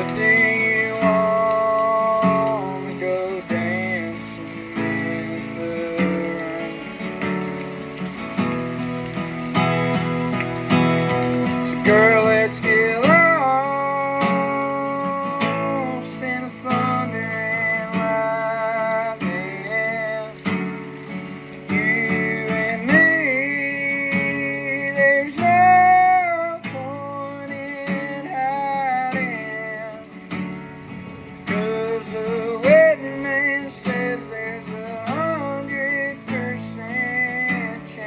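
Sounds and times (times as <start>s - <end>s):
man singing: 0.0s - 7.4s, 11.4s - 30.3s, 31.4s - 38.0s
strummed acoustic guitar: 0.0s - 38.0s.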